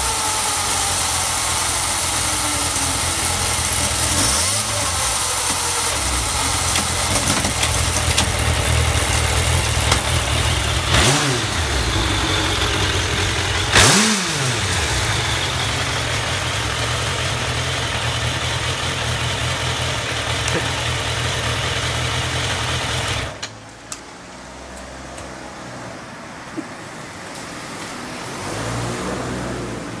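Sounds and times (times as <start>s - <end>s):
motorcycle engine idling and revving: 0.0s - 26.2s, 26.8s - 30.0s.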